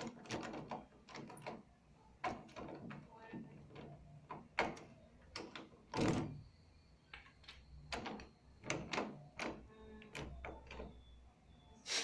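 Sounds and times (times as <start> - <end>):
key rattling in door lock: 0.0 - 6.4, 7.1 - 11.0.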